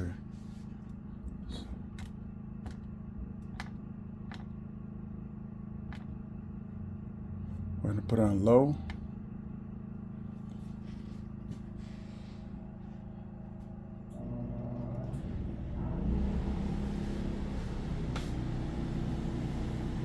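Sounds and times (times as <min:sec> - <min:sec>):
generator humming: 0:00.0 - 0:20.0.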